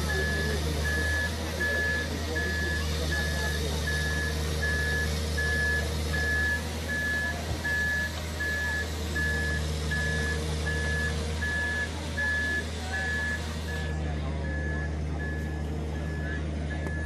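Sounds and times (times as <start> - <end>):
excavator engine humming: 0.0 - 17.0
reversing alarm beeping: 0.0 - 17.0.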